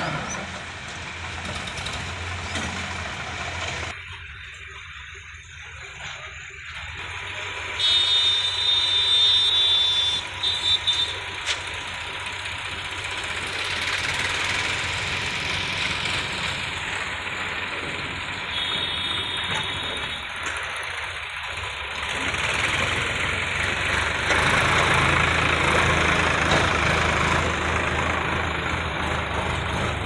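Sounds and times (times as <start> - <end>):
loud high-pitched whine: 0.0 - 25.8
tractor diesel engine running: 0.0 - 30.0.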